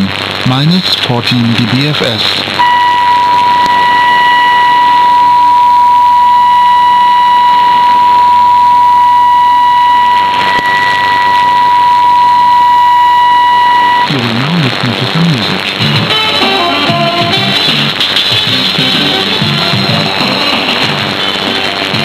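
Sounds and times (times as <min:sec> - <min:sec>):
radio static hiss: 0:00.0 - 0:22.0
music over radio: 0:01.6 - 0:22.0
steady test tone: 0:02.6 - 0:22.0.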